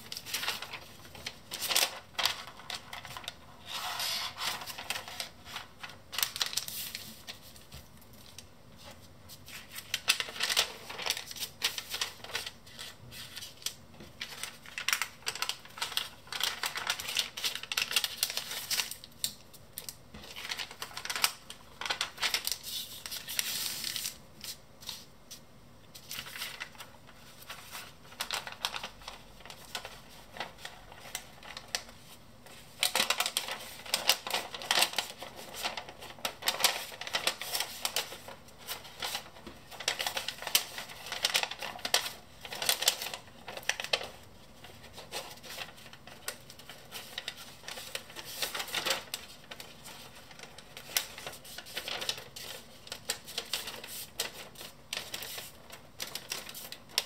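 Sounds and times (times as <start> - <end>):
paper rustling and crinkling: 0.0 - 57.0.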